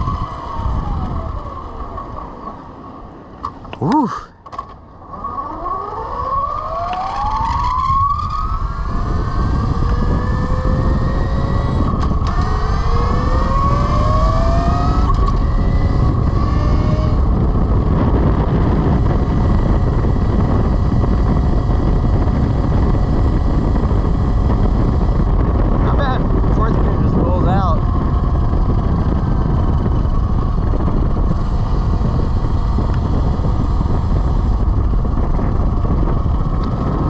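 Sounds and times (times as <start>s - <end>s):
wind noise: 0.0s - 2.8s, 5.1s - 37.0s
electric motorcycle motor whine: 0.0s - 3.2s, 4.9s - 37.0s.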